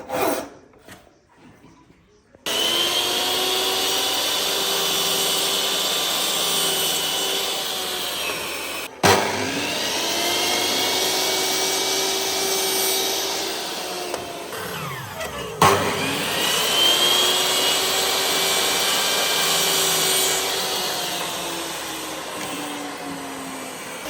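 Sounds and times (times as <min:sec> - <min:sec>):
power tool motor whining: 0:02.5 - 0:24.0.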